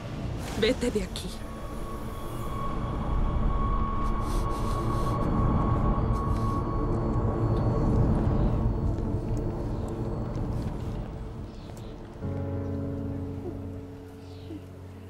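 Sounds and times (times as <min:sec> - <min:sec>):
low rumbling background score: 0:00.0 - 0:15.0.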